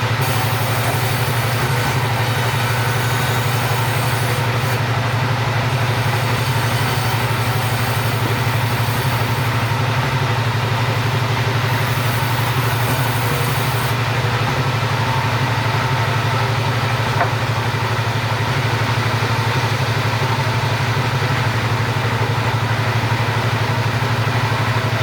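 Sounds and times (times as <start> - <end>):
chainsaw engine running: 0.0 - 25.0.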